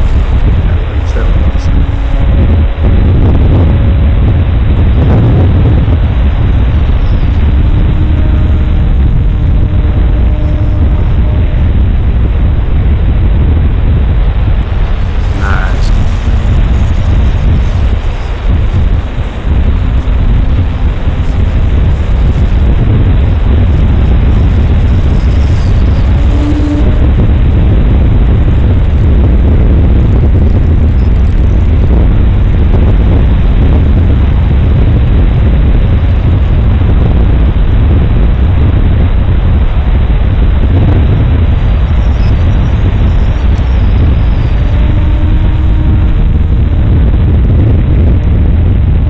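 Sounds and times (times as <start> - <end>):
model plane engine and propeller: 0.0 - 49.0.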